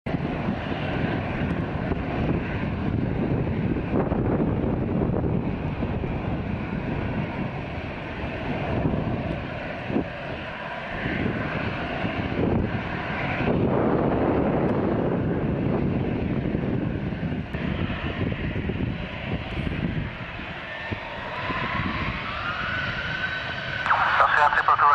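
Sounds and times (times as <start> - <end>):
jet engines roaring: 0.1 - 24.9.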